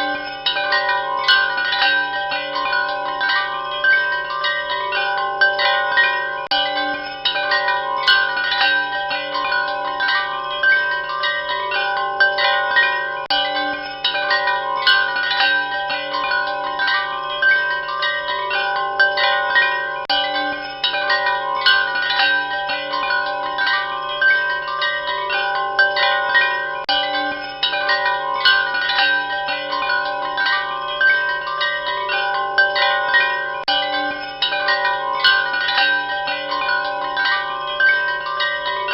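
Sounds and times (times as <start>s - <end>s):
wind chimes ringing: 0.0s - 38.9s.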